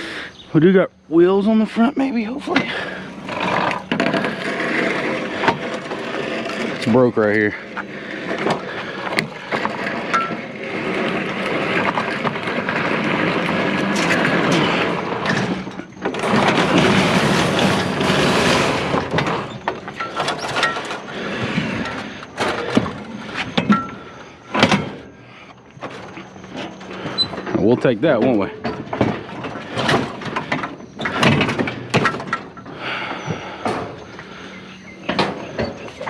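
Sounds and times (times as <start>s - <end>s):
treadmill scraping and rubbing: 1.4s - 36.0s.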